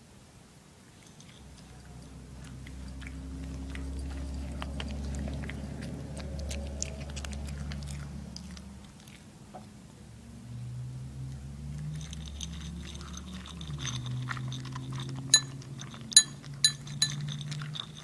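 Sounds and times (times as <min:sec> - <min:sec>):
low steady hum: 0:00.0 - 0:18.0
dog crunching dry kibble: 0:00.9 - 0:09.3, 0:11.6 - 0:18.0.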